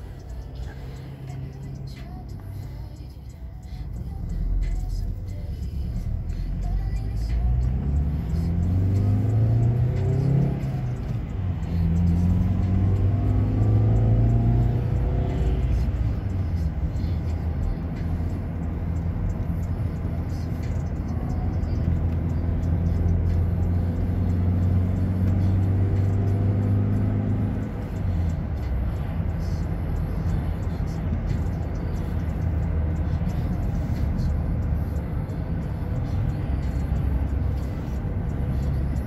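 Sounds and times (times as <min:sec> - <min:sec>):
car engine and tyre noise: 0:00.0 - 0:39.0.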